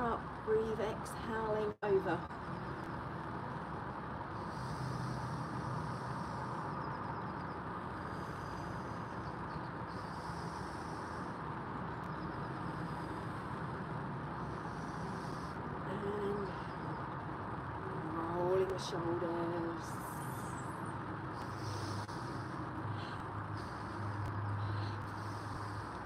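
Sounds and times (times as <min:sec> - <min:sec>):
distant road traffic hum: 0:00.0 - 0:26.0.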